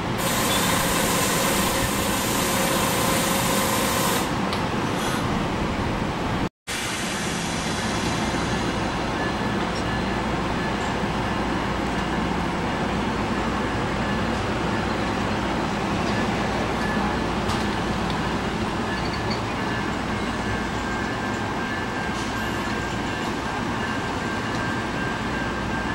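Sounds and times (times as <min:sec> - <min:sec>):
train rumbling on rails: 0:00.0 - 0:25.9.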